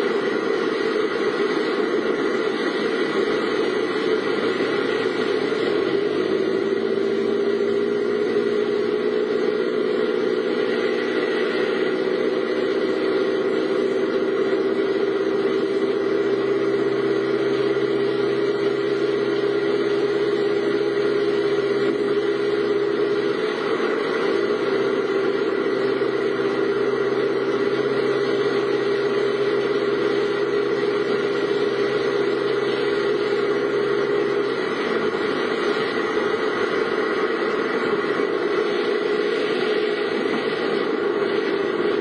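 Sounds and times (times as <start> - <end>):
car engine humming: 0.0 - 42.0.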